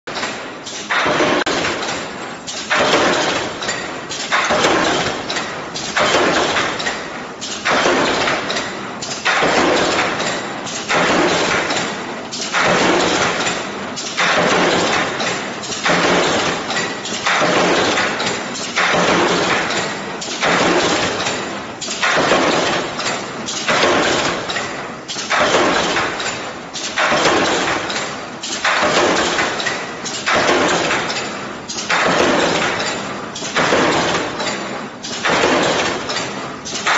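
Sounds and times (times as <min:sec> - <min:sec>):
packaging machine mechanical noise: 0:00.1 - 0:36.9.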